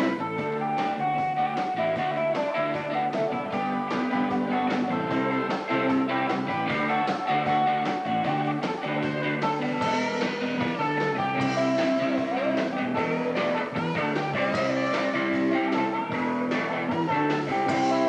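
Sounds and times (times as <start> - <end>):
blues-rock band music: 0.0 - 18.0.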